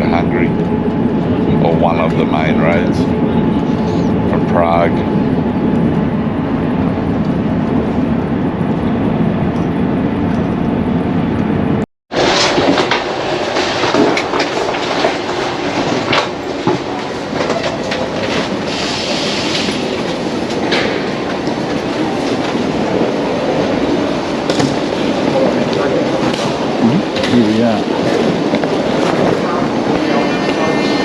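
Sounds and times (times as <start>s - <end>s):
train rumble and wheel clatter: 0.0s - 31.0s.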